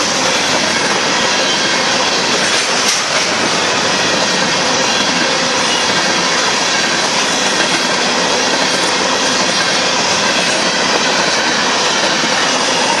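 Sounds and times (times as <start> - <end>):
freight train wheels on rail: 0.0 - 13.0.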